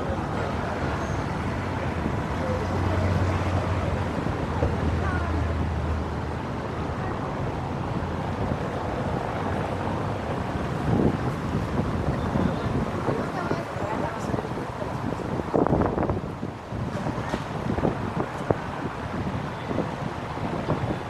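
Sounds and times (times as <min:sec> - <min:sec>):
faint voices of passers-by: 0:00.0 - 0:21.0
street traffic: 0:00.0 - 0:21.0.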